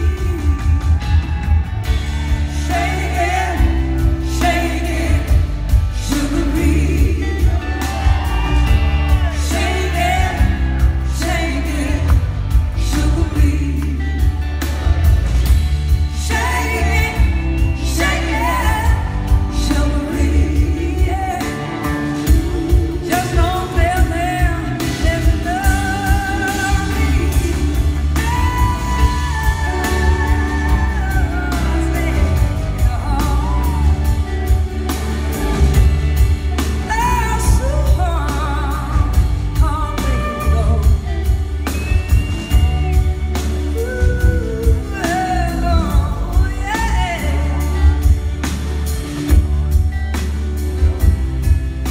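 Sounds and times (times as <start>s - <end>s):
gliding lead guitar line: 0.0s - 51.9s
live blues-rock band: 0.0s - 51.9s.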